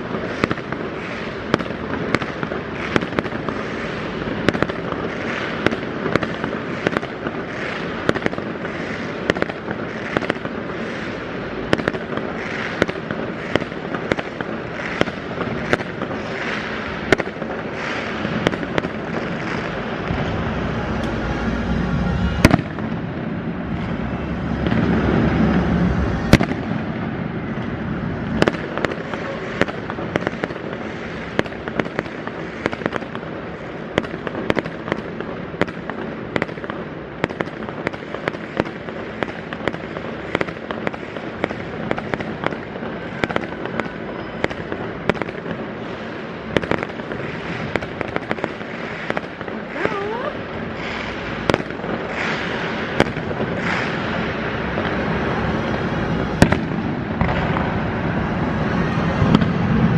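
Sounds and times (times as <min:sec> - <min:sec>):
fireworks crackling and popping: 0:00.0 - 0:59.9
fireworks loud bangs: 0:00.0 - 0:59.9.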